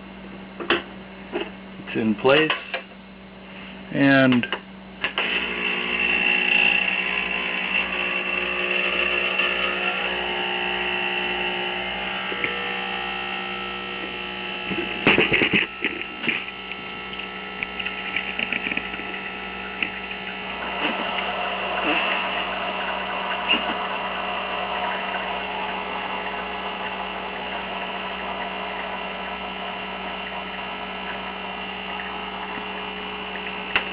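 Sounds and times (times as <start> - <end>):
espresso machine pump humming: 5.1 - 33.9.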